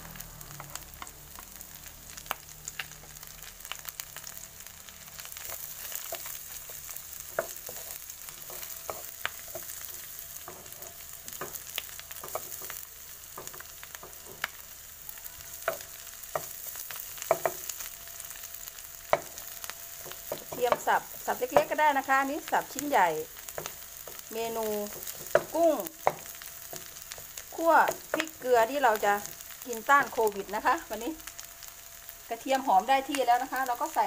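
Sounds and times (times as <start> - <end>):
prawns sizzling in a frying pan: 0.0 - 34.0.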